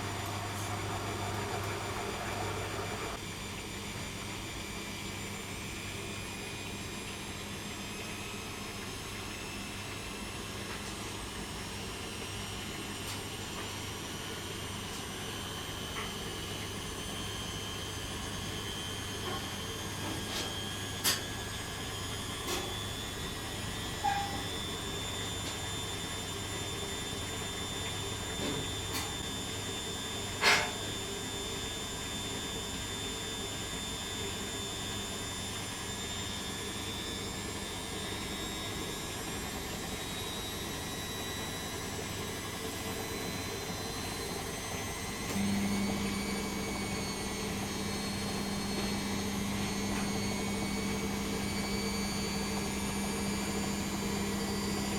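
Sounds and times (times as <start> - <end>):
washing machine humming: 0.0 - 54.9.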